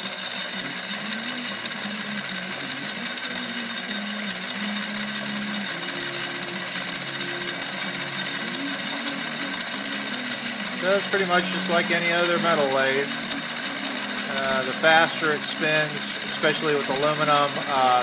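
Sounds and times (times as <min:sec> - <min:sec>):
lathe motor whirring and humming: 0:00.0 - 0:18.0.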